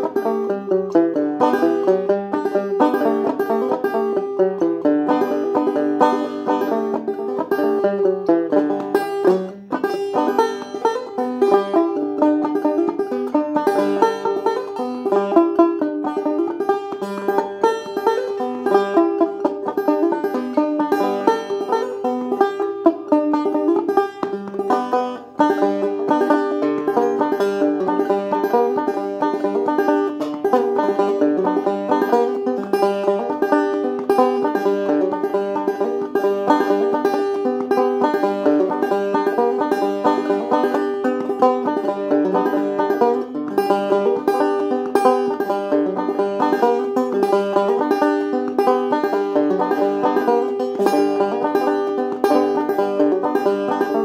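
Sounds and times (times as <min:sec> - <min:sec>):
banjo picking: 0:00.0 - 0:54.0.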